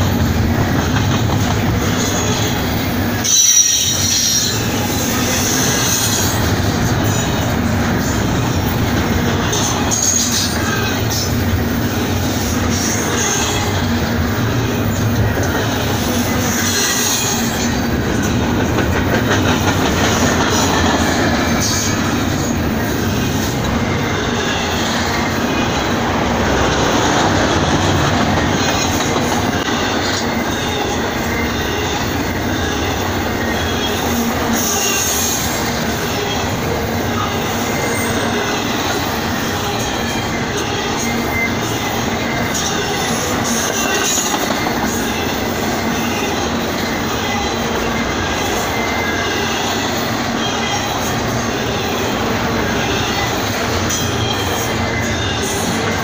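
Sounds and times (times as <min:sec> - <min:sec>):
train wheels rolling on rails: 0:00.0 - 0:56.0
high wheel squeals: 0:01.7 - 0:18.4, 0:19.5 - 0:56.0.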